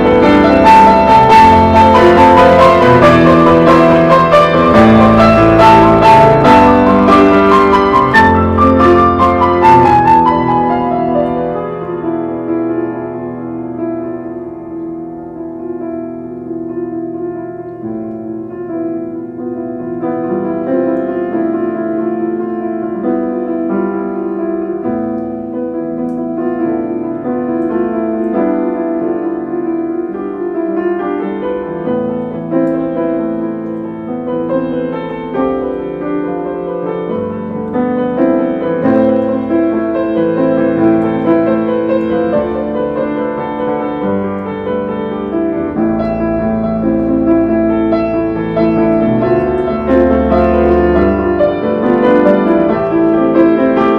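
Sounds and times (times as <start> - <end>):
instrumental music with held notes: 0.0 - 53.9.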